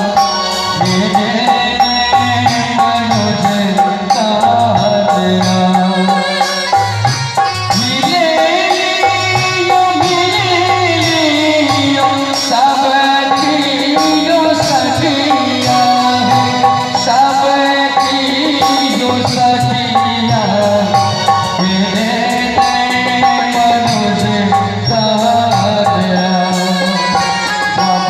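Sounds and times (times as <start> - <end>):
ornamented melody with drums: 0.0 - 28.0.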